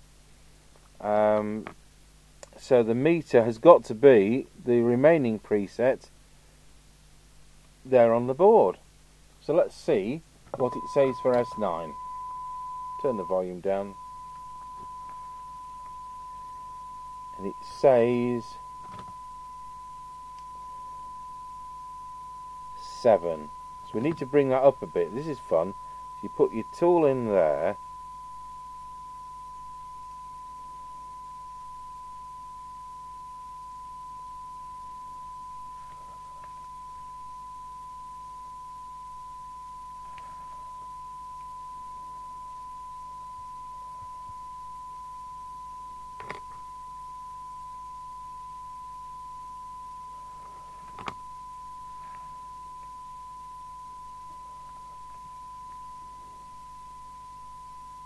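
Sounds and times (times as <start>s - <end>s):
steady test tone from speaker: 0.0s - 58.0s.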